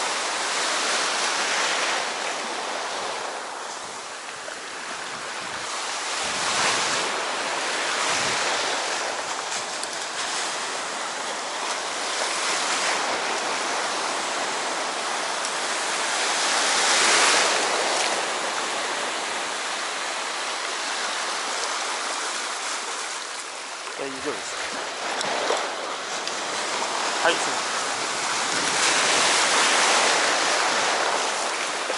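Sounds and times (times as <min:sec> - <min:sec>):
sea waves washing onto shore: 0:00.0 - 0:31.9.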